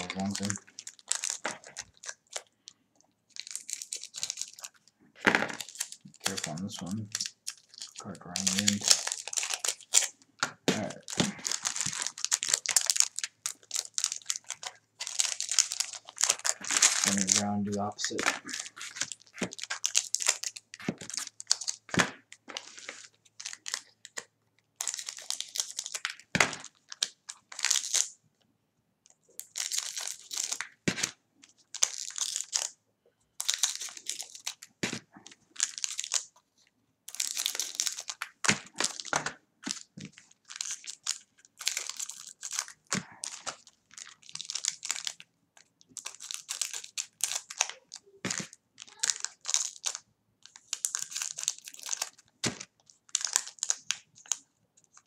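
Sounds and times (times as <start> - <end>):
foil wrappers crinkling: 0.0 - 28.1, 29.4 - 32.8, 33.4 - 36.4, 37.1 - 55.0.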